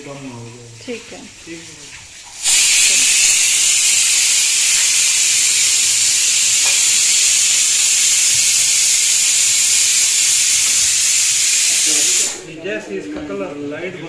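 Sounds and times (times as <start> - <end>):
onions sizzling in oil: 0.6 - 12.5.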